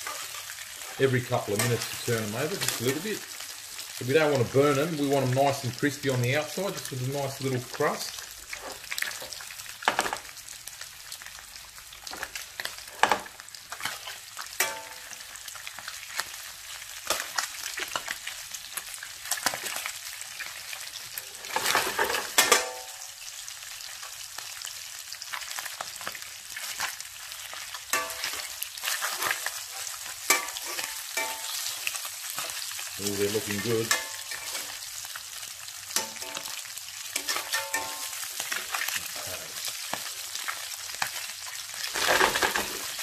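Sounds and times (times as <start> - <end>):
food sizzling in oil: 0.0 - 43.0.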